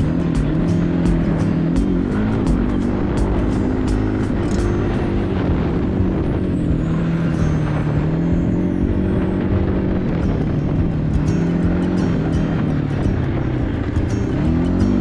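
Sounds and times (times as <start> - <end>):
background music: 0.0 - 15.0
small vehicle engine running: 0.0 - 15.0.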